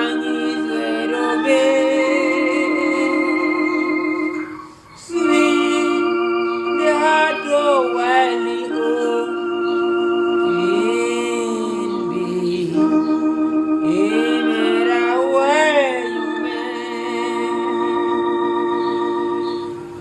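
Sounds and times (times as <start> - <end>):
person singing wordless phrases: 0.0 - 19.6
held organ chord: 0.0 - 20.0.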